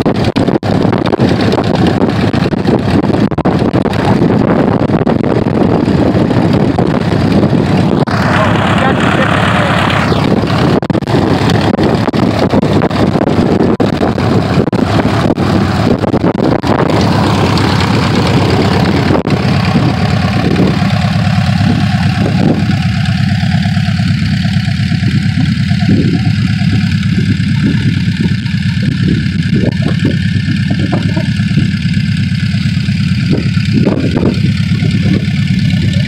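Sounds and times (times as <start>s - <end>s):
small aircraft engine idling: 0.0s - 36.0s
wind buffeting microphone: 0.0s - 36.0s.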